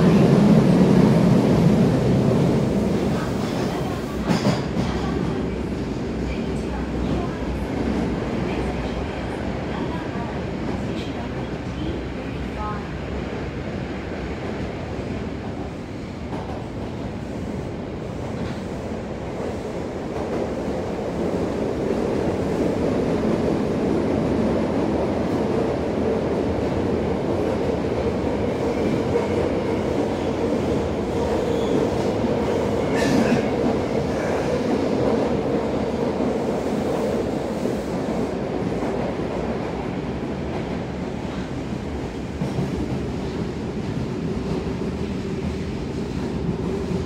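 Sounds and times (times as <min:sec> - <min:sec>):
subway wheels and motors rumbling: 0:00.0 - 0:47.0.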